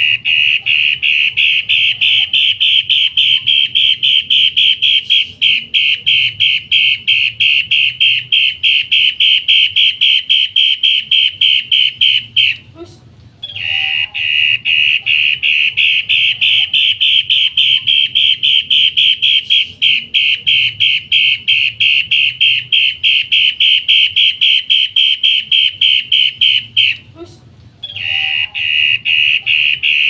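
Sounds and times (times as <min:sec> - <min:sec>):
bird calling harsh notes: 0:00.0 - 0:12.7, 0:13.4 - 0:27.0, 0:27.8 - 0:30.0.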